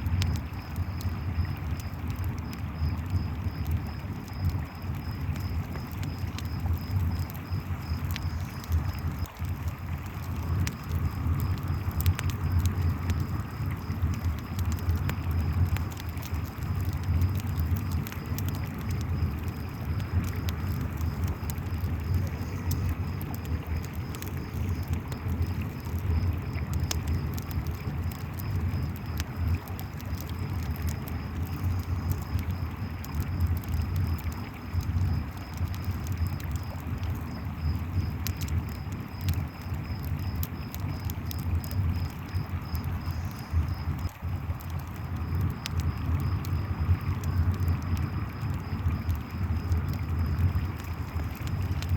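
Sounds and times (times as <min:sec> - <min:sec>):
campfire crackling and popping: 0:00.0 - 0:51.9
crickets trilling: 0:00.0 - 0:51.9.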